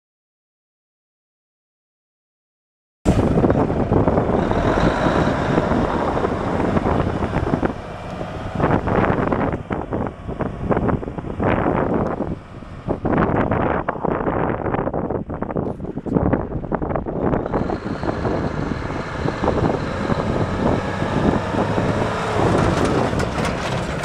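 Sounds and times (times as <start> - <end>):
diesel truck engine running: 3.1 - 24.0
wind on microphone: 3.1 - 24.0.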